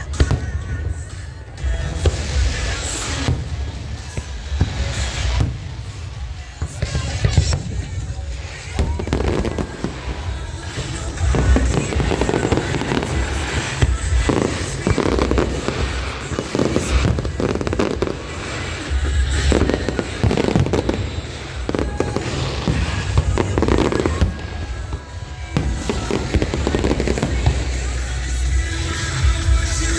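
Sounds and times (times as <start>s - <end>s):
fireworks booming and cracking: 0.0s - 29.9s.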